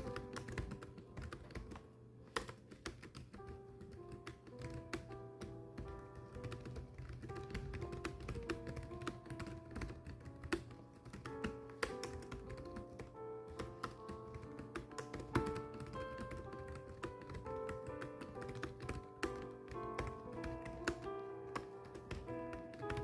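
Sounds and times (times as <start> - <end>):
typing keystrokes: 0.0 - 23.0.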